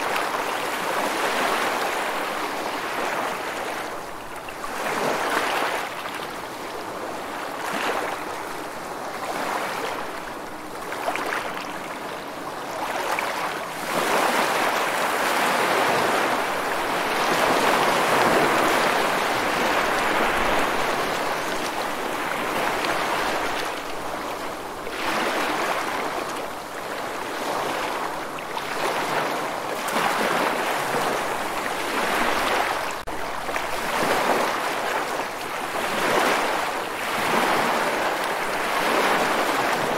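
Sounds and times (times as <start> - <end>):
waves rushing: 0.0 - 39.9
wind: 0.0 - 39.9.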